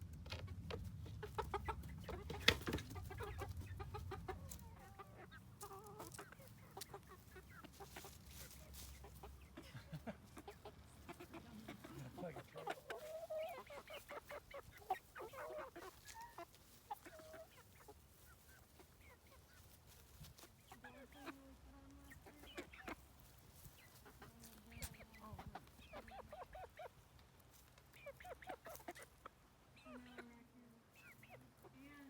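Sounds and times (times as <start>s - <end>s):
chicks peeping and clucking: 0.0s - 32.0s.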